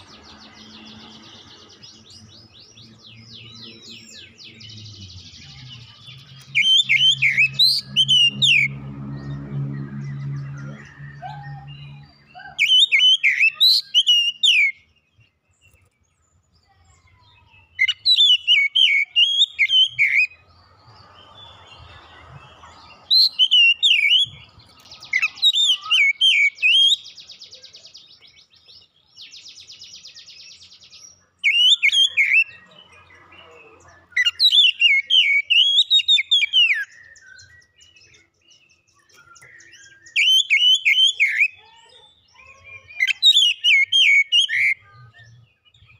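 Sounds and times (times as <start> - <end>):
bird singing whistled notes: 0.0 - 32.8, 34.1 - 45.9.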